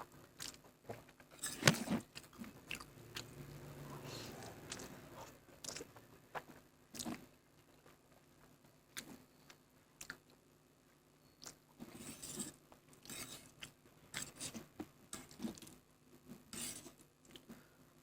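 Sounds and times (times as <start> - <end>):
person slurping and chewing noodles: 0.3 - 9.2, 11.4 - 17.5.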